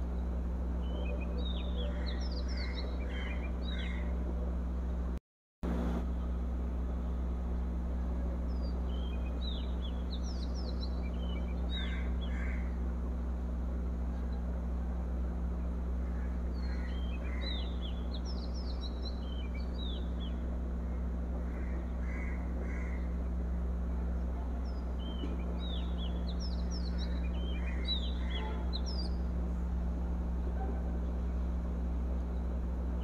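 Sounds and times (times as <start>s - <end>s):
small birds chirping: 0.0s - 4.3s, 7.1s - 14.8s, 15.4s - 33.0s.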